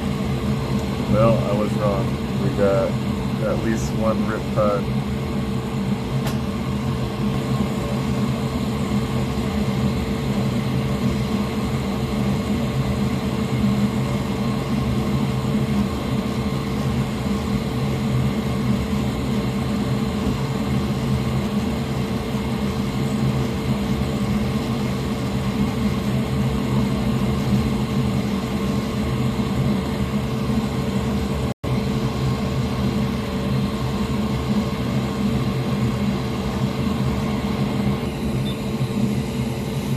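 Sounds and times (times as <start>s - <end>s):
fan running: 0.0s - 39.9s
low electrical hum: 0.0s - 39.9s.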